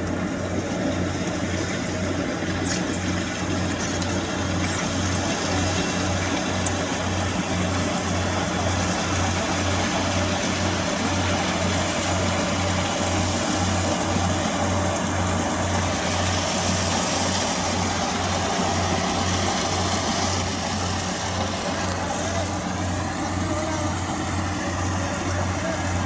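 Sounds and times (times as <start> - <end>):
combine harvester drone: 0.0 - 26.0.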